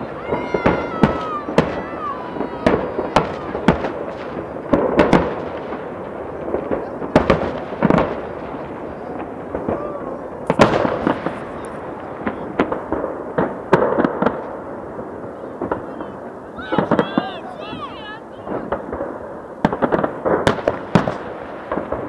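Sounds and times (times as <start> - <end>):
firework bangs: 0.0 - 22.0
rumble of distant firework bursts: 0.0 - 22.0.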